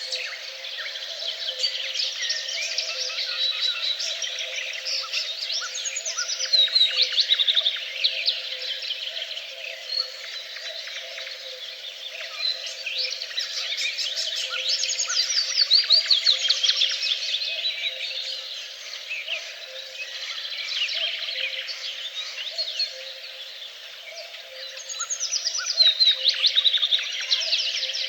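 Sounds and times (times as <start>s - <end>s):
birds singing in chorus: 0.0s - 28.0s.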